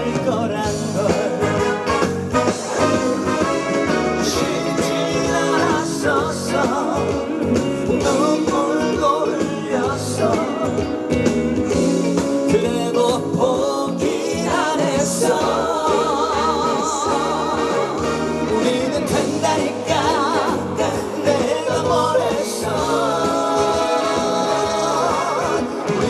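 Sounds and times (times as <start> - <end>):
loud backing music: 0.0 - 26.0
man singing: 0.0 - 26.0.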